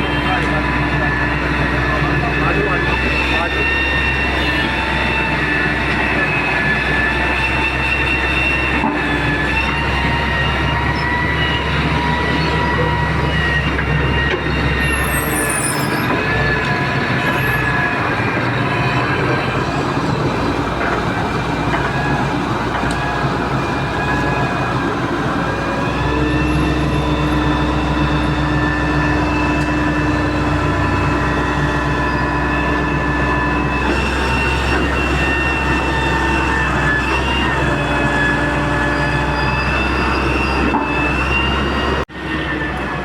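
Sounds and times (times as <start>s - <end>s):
excavator engine rumble: 0.0s - 43.0s
high-pitched metallic whine: 0.0s - 43.0s.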